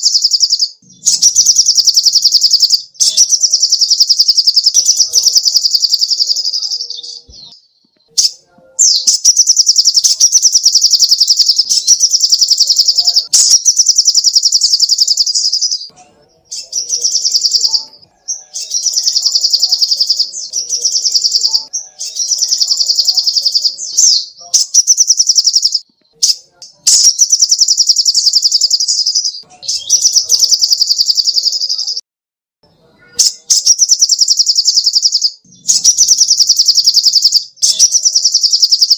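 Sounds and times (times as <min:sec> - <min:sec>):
bird singing high-pitched trills: 0:00.0 - 0:32.0, 0:33.0 - 0:38.9.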